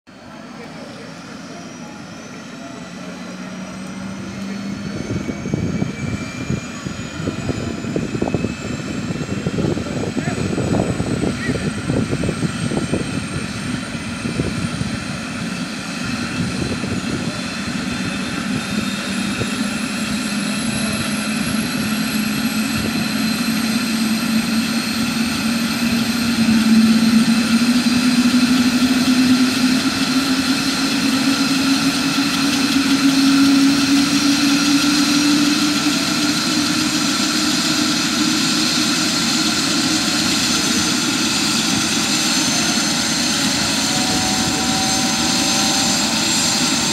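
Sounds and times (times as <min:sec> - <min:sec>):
helicopter rotor: 0:00.1 - 0:46.9
helicopter turbine whine: 0:00.1 - 0:46.9.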